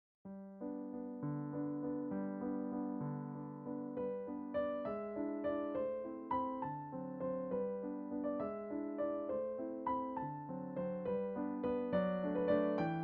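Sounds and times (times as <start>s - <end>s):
solo electric piano melody: 0.3s - 13.0s.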